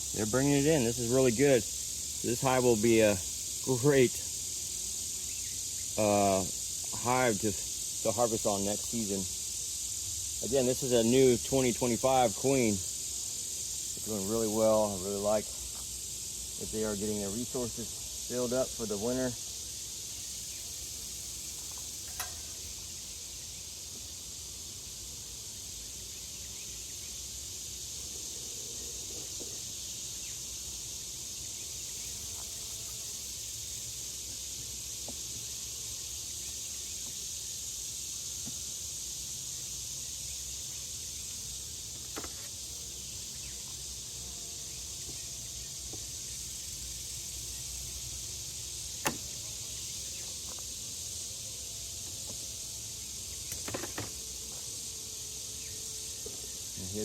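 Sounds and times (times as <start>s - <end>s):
insect chorus hissing: 0.0s - 57.0s.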